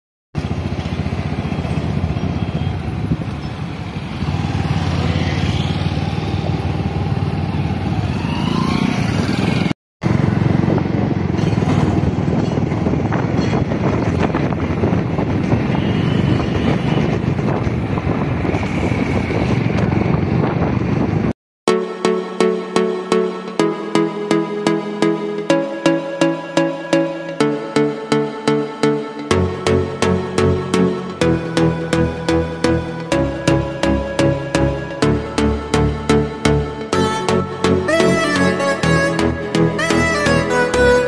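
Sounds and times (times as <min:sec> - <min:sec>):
road noise: 0:00.4 - 0:21.3, 0:23.7 - 0:41.0
vehicle engine drone: 0:00.4 - 0:21.3, 0:27.2 - 0:41.0.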